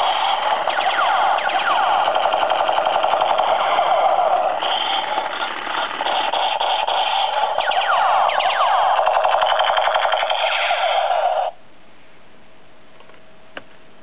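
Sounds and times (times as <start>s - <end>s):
toy gun rapid-fire rattle: 0.0s - 11.5s
falling laser sweeps: 0.0s - 11.6s.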